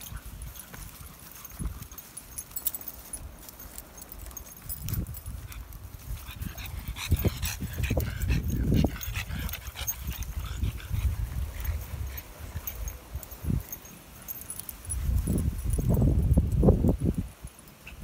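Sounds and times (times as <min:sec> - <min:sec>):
dogs panting and snuffling: 0:00.0 - 0:18.0.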